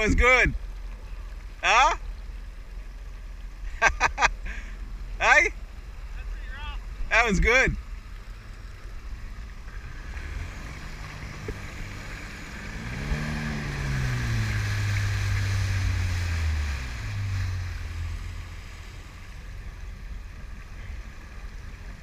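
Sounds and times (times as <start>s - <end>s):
boat motor: 0.0s - 22.0s
water rushing: 0.0s - 22.0s
wind: 0.0s - 22.0s.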